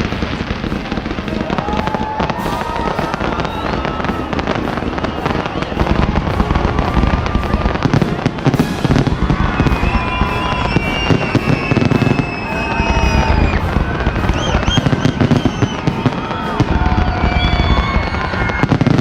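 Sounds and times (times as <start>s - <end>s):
fireworks booming bursts: 0.0s - 19.0s
fireworks crackling and popping: 0.0s - 19.0s
fireworks whistling: 0.0s - 19.0s.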